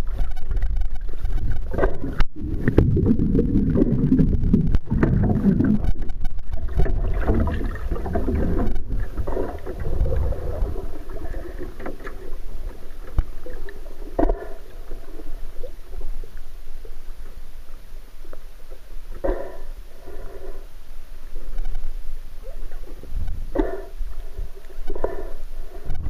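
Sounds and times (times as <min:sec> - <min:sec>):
muffled underwater rumble and sloshing: 0:00.0 - 0:26.0.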